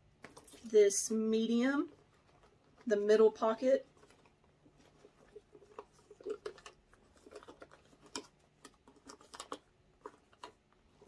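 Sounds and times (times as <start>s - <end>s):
faint rustling: 0.2s - 11.0s.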